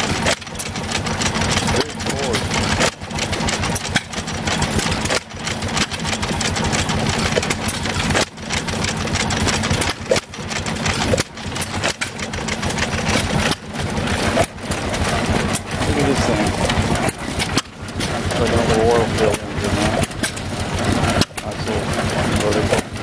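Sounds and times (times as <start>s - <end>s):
stationary engines clattering: 0.0s - 23.0s.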